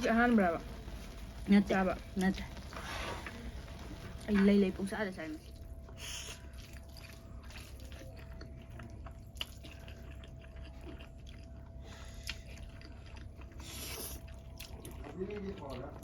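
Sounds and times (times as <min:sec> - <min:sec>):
soft chewing: 0:02.1 - 0:16.0.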